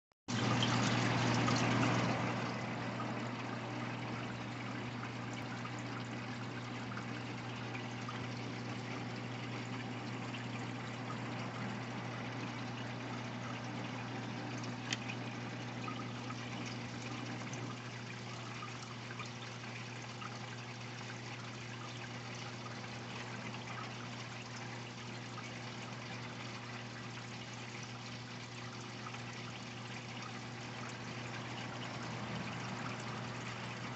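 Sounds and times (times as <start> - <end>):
aquarium water trickling: 0.3 - 33.9
low pump hum: 0.3 - 33.9.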